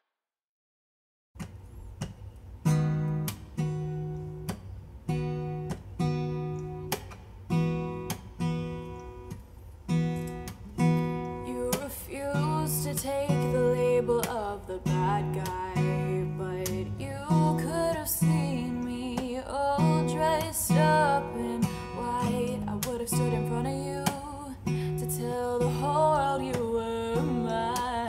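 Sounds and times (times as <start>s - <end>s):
acoustic guitar chords ringing: 2.5s - 28.0s.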